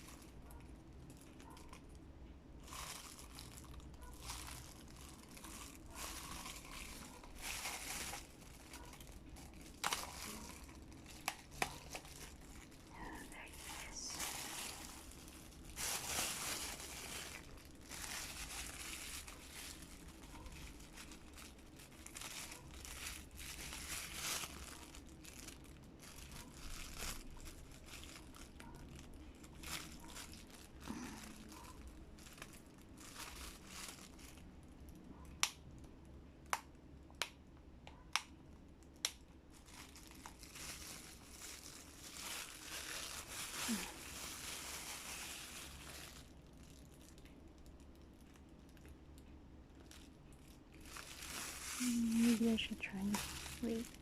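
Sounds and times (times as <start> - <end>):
packaging crinkling: 0.0 - 35.5, 39.0 - 49.0, 49.8 - 54.0.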